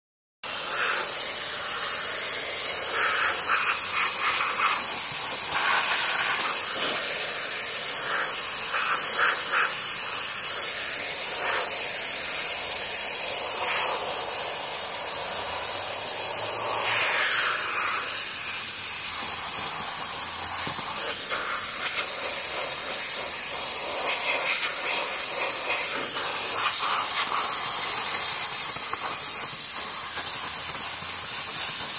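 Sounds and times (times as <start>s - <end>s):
pressure washer jet hissing on concrete: 0.4s - 31.9s.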